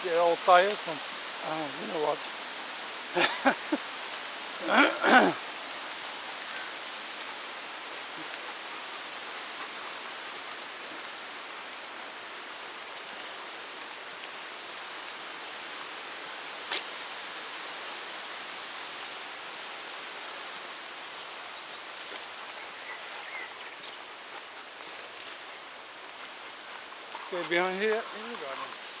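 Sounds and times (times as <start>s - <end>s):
stormy wind through trees: 0.0s - 29.0s.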